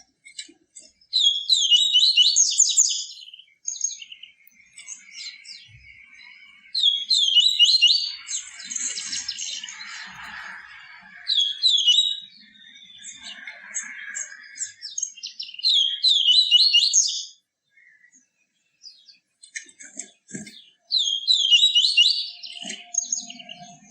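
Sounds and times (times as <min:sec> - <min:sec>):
small bird twittering song: 0:00.0 - 0:23.9.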